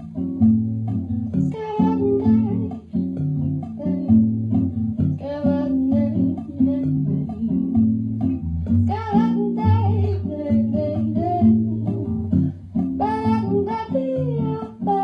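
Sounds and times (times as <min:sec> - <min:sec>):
acoustic guitar bossa nova: 0:00.0 - 0:15.0.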